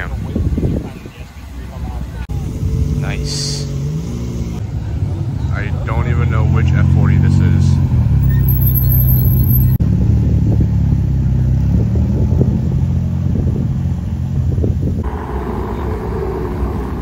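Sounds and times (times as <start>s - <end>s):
sports car engine rumbling: 0.3s - 17.0s.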